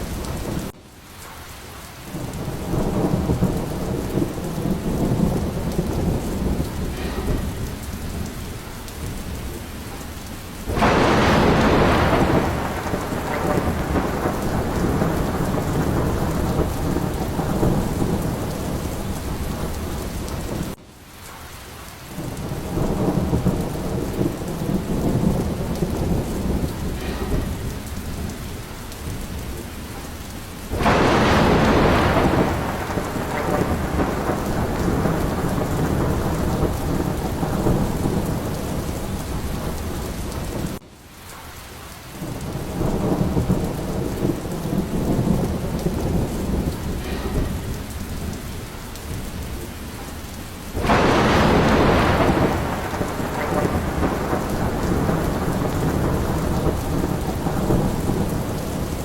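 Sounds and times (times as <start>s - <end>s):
thunder rumbling: 0.0s - 1.4s, 2.0s - 20.8s, 22.1s - 40.8s, 42.1s - 59.0s
heavy rain: 0.0s - 59.0s
sharp thunderclap: 2.1s - 20.8s, 22.2s - 40.8s, 42.2s - 59.0s.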